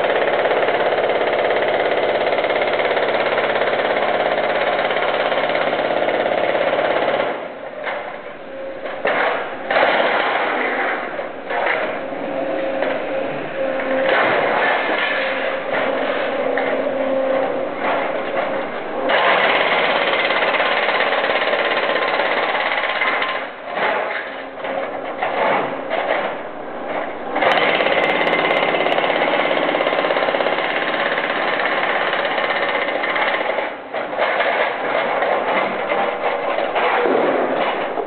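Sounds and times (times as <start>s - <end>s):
hydraulic breaker hammering concrete: 0.0s - 8.2s, 8.8s - 38.0s.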